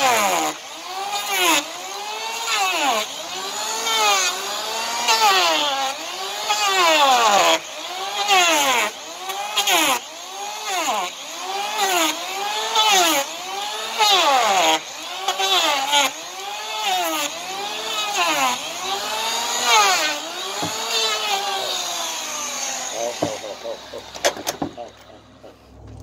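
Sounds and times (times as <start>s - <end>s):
electric planer motor whining: 0.0s - 26.0s.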